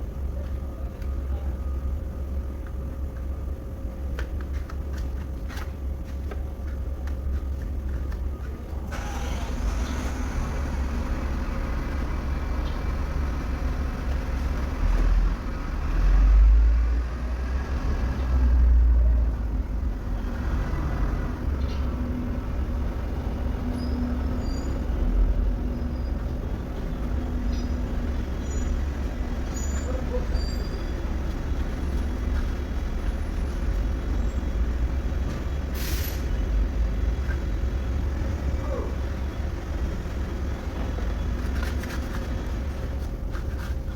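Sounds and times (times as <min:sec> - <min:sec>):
vehicle engine rumbling: 0:00.0 - 0:43.9.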